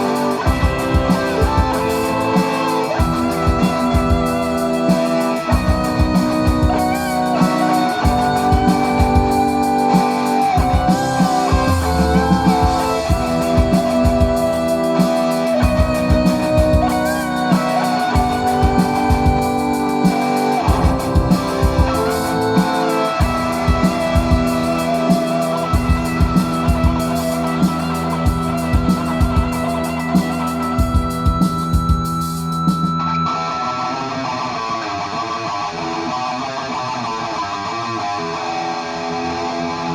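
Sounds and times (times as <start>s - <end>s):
guitar melody of wavering notes: 0.0s - 39.9s
rock band playing: 0.0s - 39.9s.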